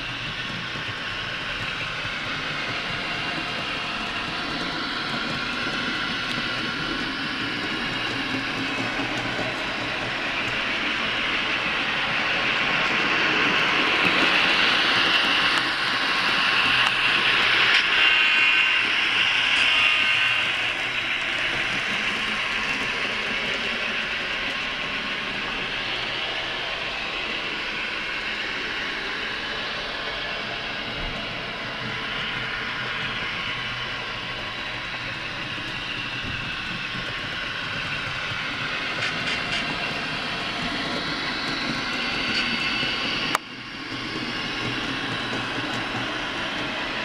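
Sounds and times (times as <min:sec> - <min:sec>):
model trains running on track: 0:00.0 - 0:47.0.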